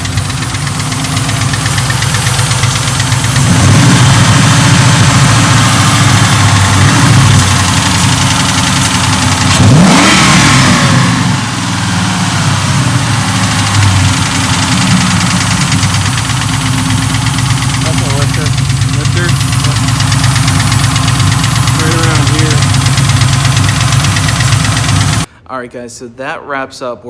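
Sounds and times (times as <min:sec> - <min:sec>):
car engine idling and revving: 0:00.0 - 0:25.3
engine ticking: 0:00.0 - 0:25.3.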